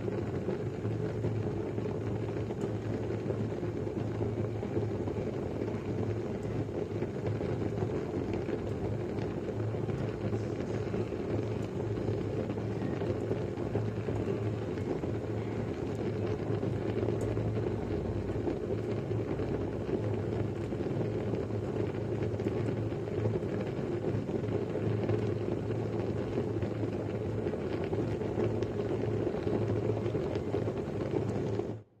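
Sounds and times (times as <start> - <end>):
pot of rice boiling: 0.0 - 32.0.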